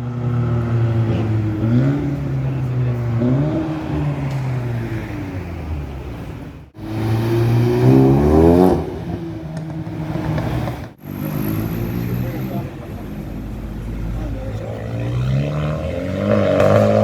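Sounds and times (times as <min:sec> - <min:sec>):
car engines accelerating hard: 0:00.0 - 0:17.0.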